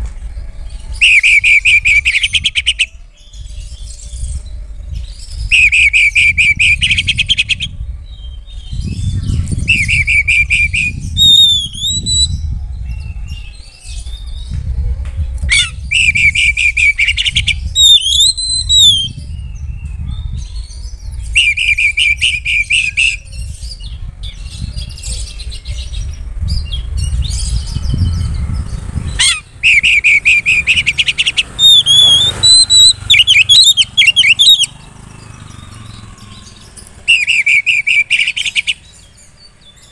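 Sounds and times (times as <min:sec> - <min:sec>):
low rumble: 0:00.0 - 0:37.1
bird singing trills and whistles: 0:00.0 - 0:39.9.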